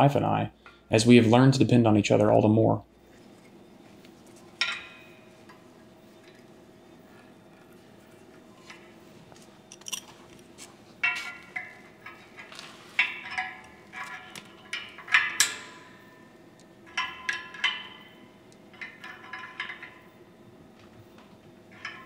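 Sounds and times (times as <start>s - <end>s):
metallic clinks and knocks: 3.0s - 20.2s, 20.8s - 22.0s.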